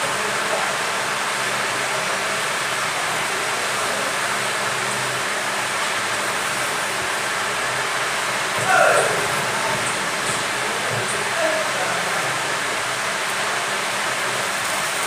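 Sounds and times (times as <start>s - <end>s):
faint low fan hum: 0.0s - 15.0s.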